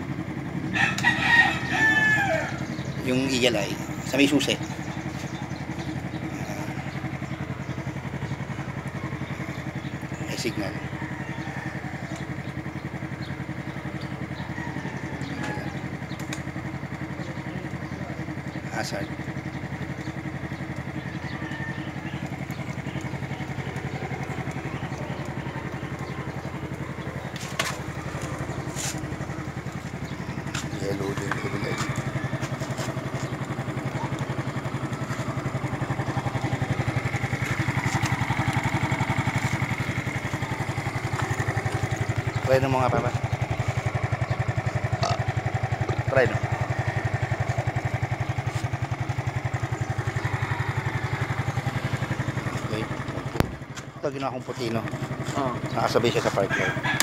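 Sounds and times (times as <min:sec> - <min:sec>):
scooter engine idling: 0:00.0 - 0:57.0.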